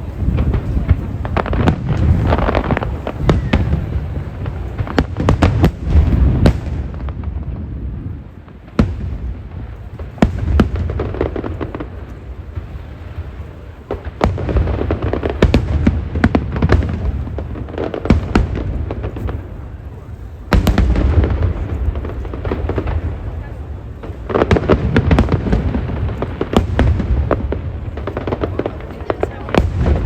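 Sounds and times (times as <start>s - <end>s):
fireworks rumble and crackle: 0.0s - 30.0s.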